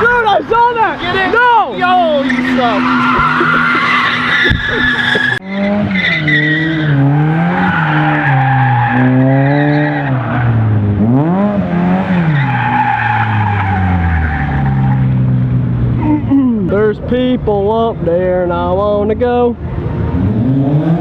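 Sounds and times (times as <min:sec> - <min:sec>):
tires squealing: 0:00.0 - 0:16.9
car engine revving: 0:00.0 - 0:21.0.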